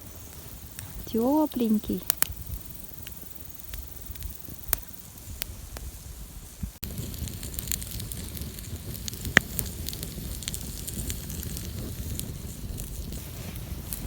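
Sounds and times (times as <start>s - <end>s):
campfire crackling: 0.0s - 14.0s
sharp pops of burning wood: 0.0s - 14.0s.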